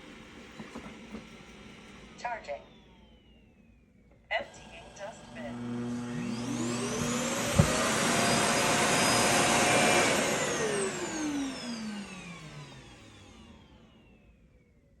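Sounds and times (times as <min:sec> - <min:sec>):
vacuum cleaner motor whining: 0:00.0 - 0:14.7.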